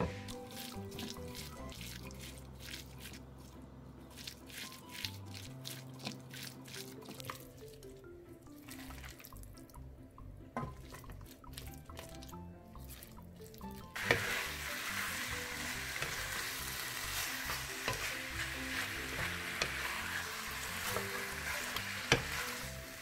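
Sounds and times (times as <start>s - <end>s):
wet squelches of mixing meat: 0.0s - 9.8s, 10.8s - 23.0s
background music: 0.0s - 23.0s.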